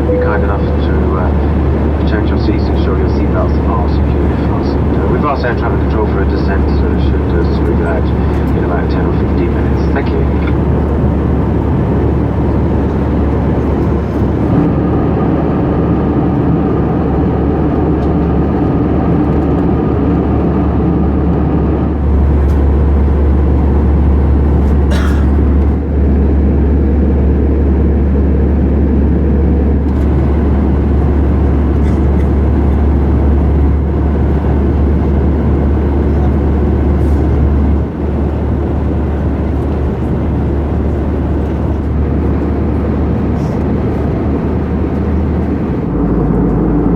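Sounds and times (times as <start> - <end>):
airplane cabin engine drone: 0.0 - 46.9.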